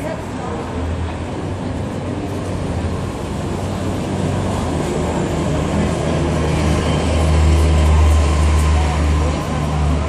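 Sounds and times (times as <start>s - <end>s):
city bus passing: 0.0s - 10.0s
street traffic: 0.0s - 10.0s.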